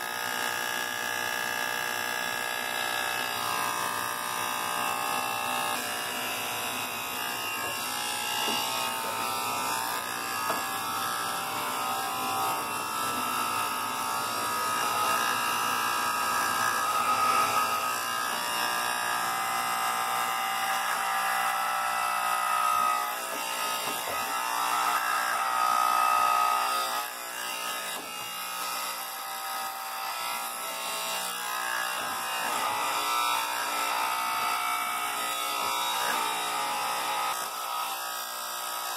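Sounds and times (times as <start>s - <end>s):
electric hair clippers buzzing: 0.0s - 38.9s.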